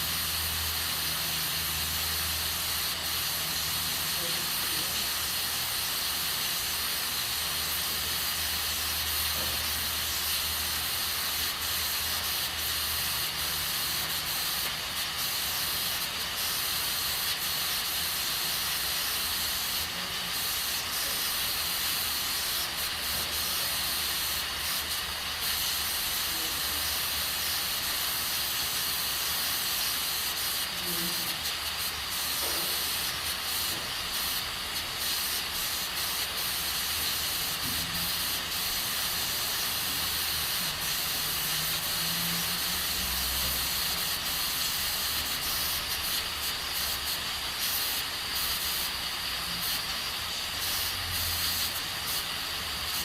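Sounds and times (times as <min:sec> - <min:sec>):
pressure cooker venting steam: 0:00.0 - 0:53.0.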